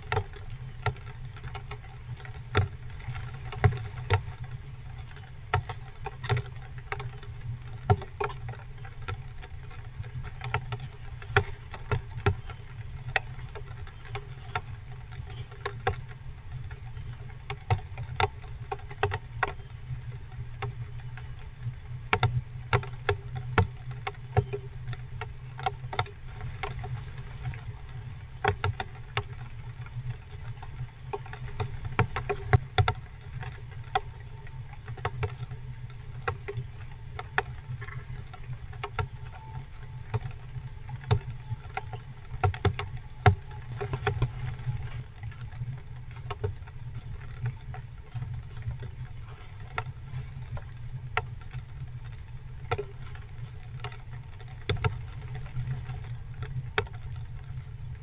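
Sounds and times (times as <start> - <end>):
low hum: 0.0 - 58.0
raindrops tapping on wooden box: 0.0 - 58.0.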